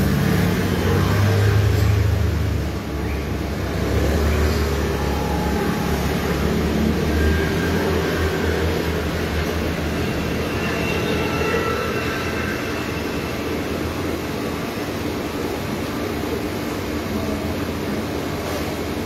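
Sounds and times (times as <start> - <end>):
machine running with low rumble: 0.0 - 19.0.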